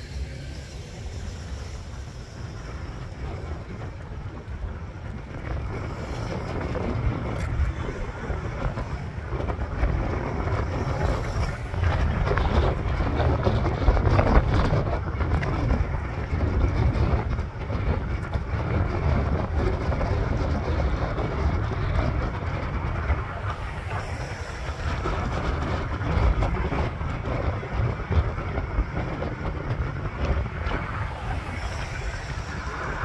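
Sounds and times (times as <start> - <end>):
scooter wheels rumbling on asphalt: 0.0 - 33.0
wind buffeting microphone: 0.0 - 33.0.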